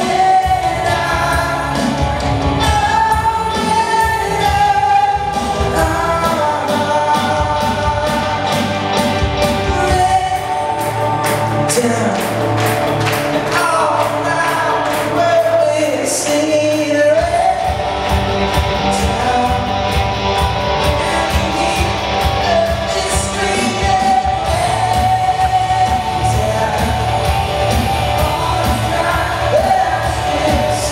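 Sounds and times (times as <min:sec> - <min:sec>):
live band playing: 0:00.0 - 0:30.9
person singing lead vocal: 0:00.0 - 0:30.9.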